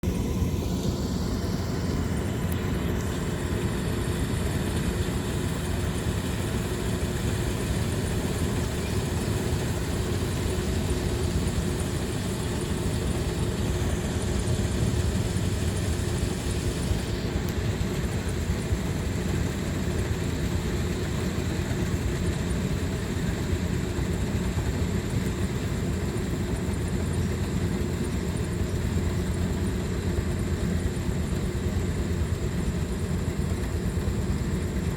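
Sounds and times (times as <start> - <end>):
harvesting machine engine running: 0.0 - 34.9.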